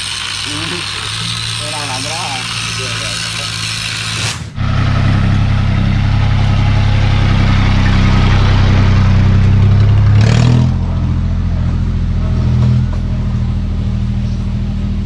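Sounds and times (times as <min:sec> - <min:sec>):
tractor diesel engine hum: 0:00.0 - 0:15.0.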